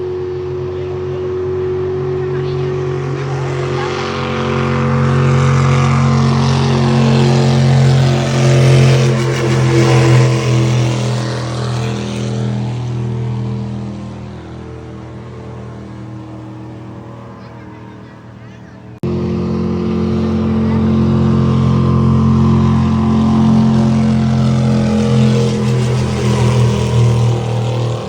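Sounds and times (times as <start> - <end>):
motorboat engine passing: 0.0 - 28.0.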